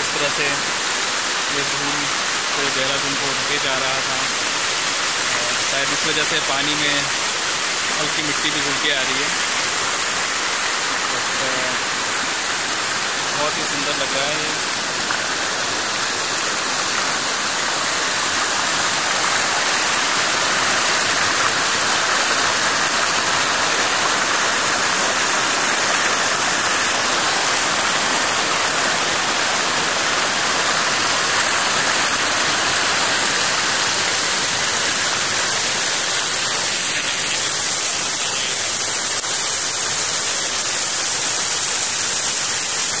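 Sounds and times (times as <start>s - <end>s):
river rushing over boulders: 0.0s - 43.0s.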